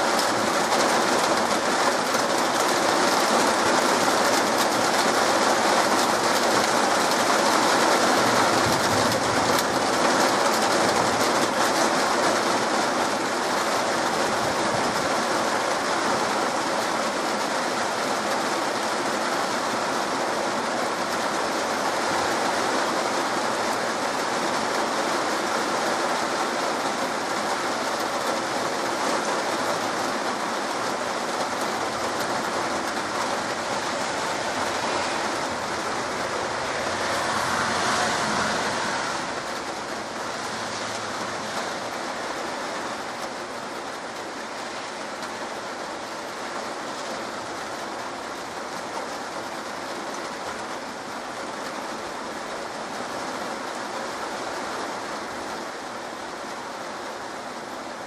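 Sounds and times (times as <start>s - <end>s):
heavy rain on trees: 0.0s - 58.0s.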